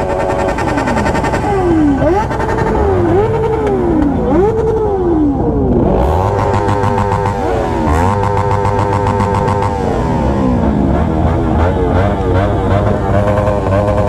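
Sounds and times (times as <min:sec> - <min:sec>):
low engine rumble: 0:00.0 - 0:14.0
motorcycle engines revving: 0:00.0 - 0:14.0.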